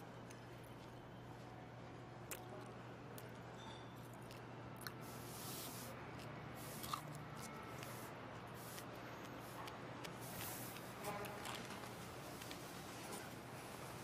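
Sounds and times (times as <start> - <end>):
people chewing and eating: 0.0 - 14.0.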